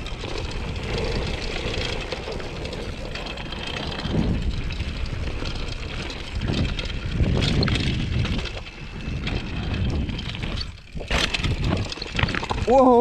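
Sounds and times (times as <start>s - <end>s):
bike clattering over bumps: 0.0s - 13.0s
bike tyres on dirt and stones: 0.0s - 13.0s
wind noise on microphone: 0.0s - 13.0s.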